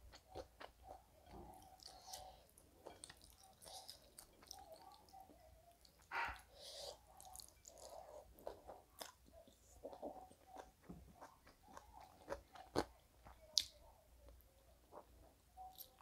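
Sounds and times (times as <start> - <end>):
wet chewing mouth sounds: 0.0 - 13.7.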